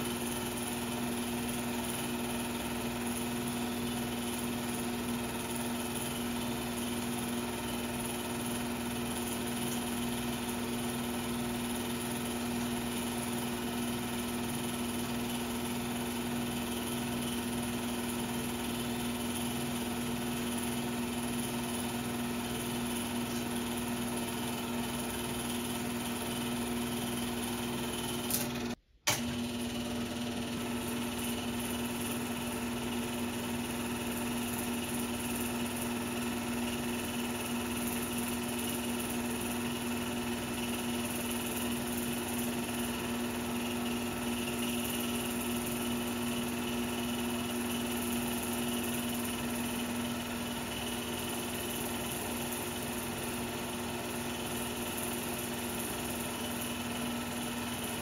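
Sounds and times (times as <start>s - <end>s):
film projector running: 0.0s - 58.0s.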